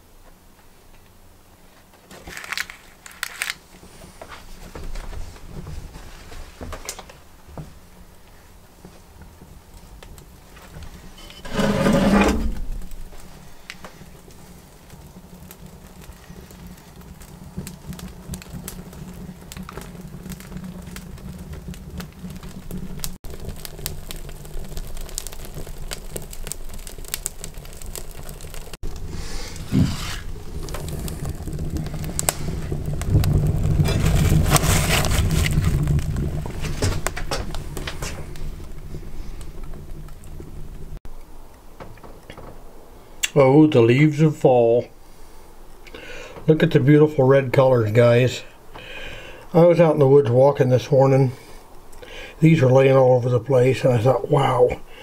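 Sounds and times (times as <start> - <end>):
low rushing of flames: 0.1 - 55.0
wood fire crackling and popping: 0.2 - 55.0.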